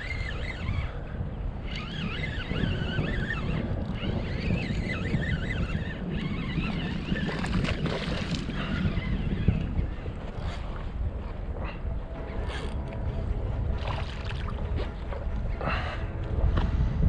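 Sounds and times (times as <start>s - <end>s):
water around kayak: 0.0s - 17.0s
wind rumbling on microphone: 0.0s - 17.0s.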